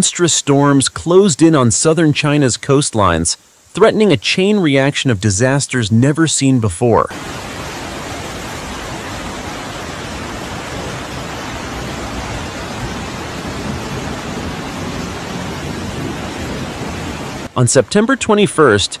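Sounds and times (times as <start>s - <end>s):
floodwater rushing from spillway: 0.0s - 19.0s.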